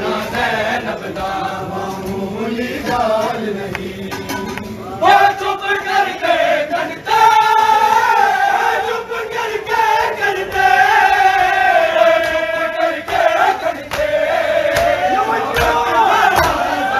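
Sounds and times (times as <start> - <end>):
men chanting a lament in unison: 0.0 - 16.9.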